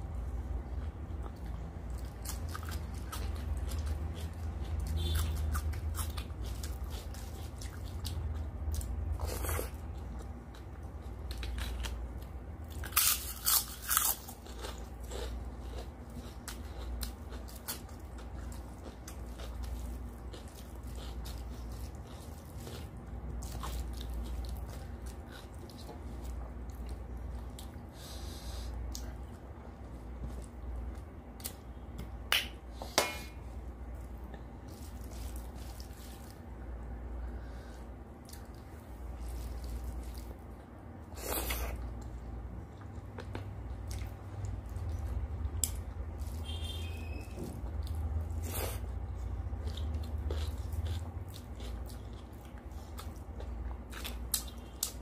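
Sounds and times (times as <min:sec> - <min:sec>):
chewing food: 0:00.7 - 0:27.8, 0:33.9 - 0:37.4, 0:38.2 - 0:55.0.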